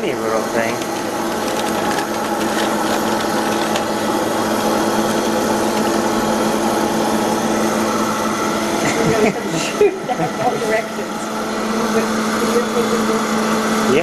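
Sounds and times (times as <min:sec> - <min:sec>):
popcorn popper motor hum: 0:00.0 - 0:14.0.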